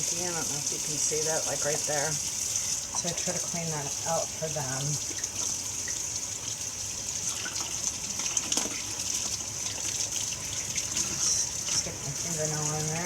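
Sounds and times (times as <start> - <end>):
feeder parts being rinsed: 0.0 - 13.0
kitchen tap running: 0.0 - 13.0.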